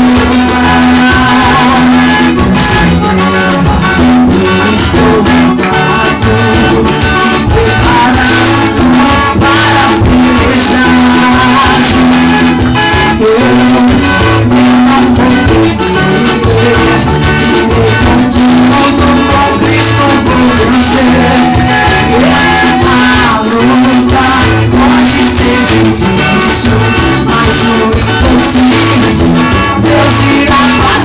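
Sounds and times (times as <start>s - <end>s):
live gospel band music: 0.0s - 31.0s
people singing: 0.0s - 31.0s
shaken percussion rhythm: 0.0s - 31.0s.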